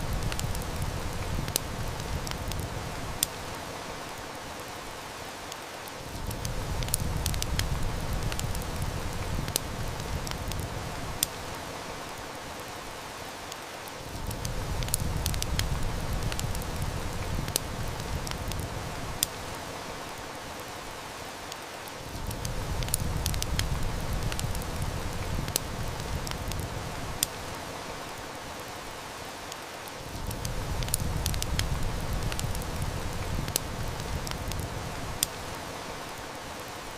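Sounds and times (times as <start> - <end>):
heavy rain hiss: 0.0 - 36.9
wood fire crackling: 0.0 - 36.9.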